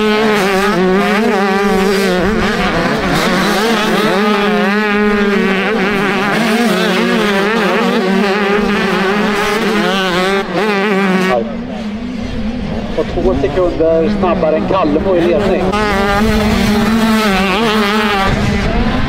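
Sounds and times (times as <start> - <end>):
motorbike engine revving high: 0.0 - 19.0.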